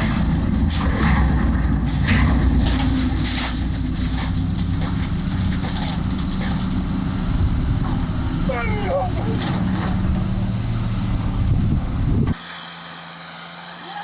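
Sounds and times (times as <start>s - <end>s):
diesel engine rumbling: 0.0s - 13.8s.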